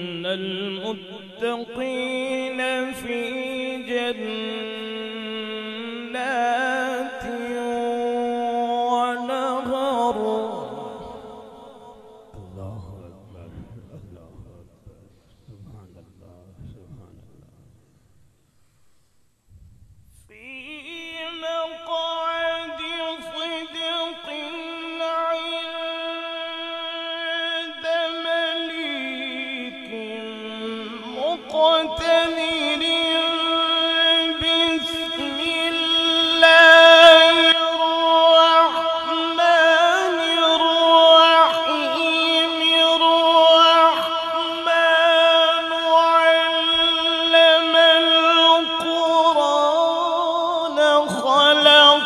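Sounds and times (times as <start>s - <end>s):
man reciting melodically: 0.0s - 18.1s, 20.2s - 52.0s.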